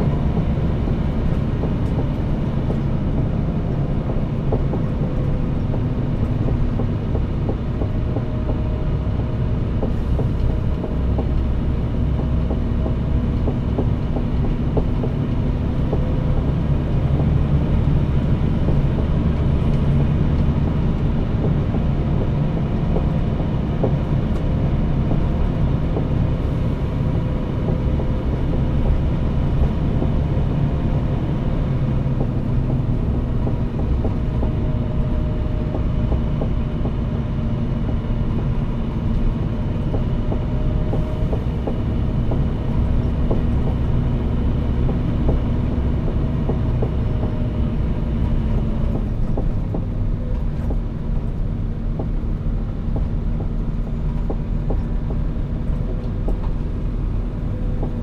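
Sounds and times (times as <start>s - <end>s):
road rumble: 0.0s - 58.0s
truck diesel engine running: 0.0s - 58.0s.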